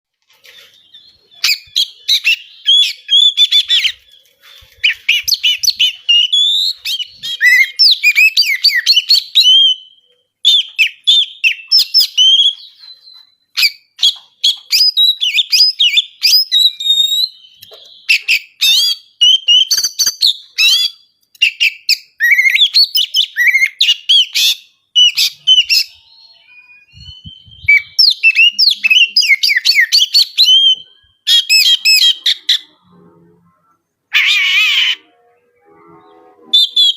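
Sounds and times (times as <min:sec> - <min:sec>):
bird singing whistles and chatter: 0:00.6 - 0:32.6, 0:35.5 - 0:36.9.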